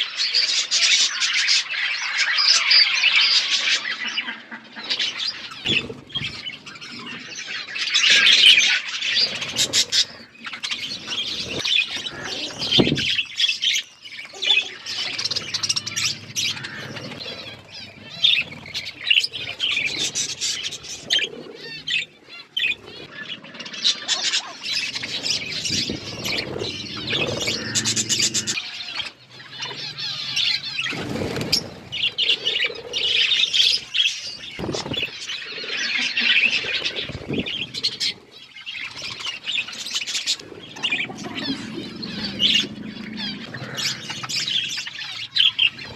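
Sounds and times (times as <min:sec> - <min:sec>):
budgerigars chattering: 0:02.6 - 0:45.9
wing flutters: 0:04.6 - 0:23.3, 0:24.3 - 0:45.9.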